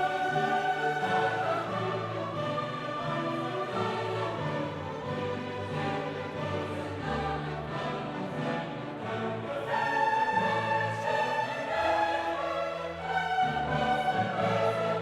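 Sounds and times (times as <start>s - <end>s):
choir holding long notes: 0.0s - 15.0s
orchestra playing: 0.0s - 15.0s.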